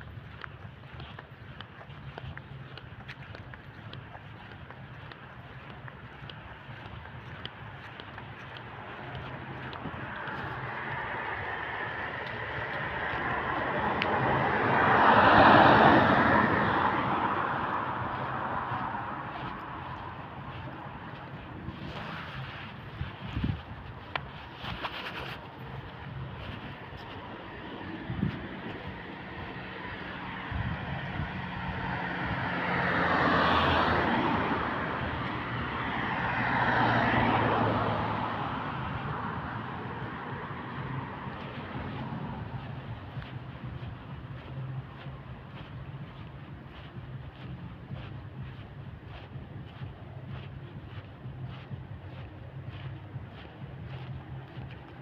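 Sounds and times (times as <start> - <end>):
vehicle passing by: 0.0 - 55.0.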